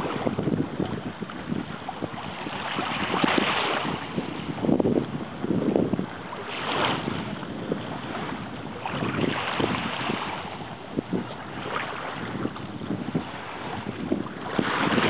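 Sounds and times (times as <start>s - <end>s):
calm sea washing on shore: 0.0s - 15.0s
wind gusting across microphone: 0.0s - 15.0s.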